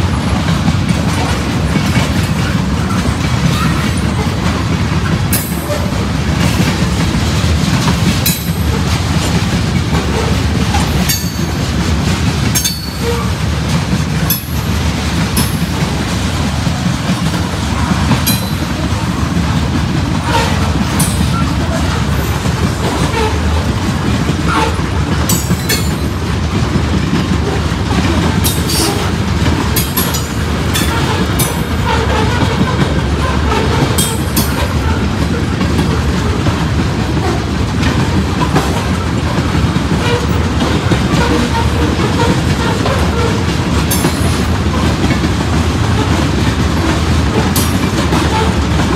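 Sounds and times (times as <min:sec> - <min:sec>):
freight train cars rumbling past: 0:00.0 - 0:48.9
wheels clacking over rail joints: 0:00.0 - 0:48.9.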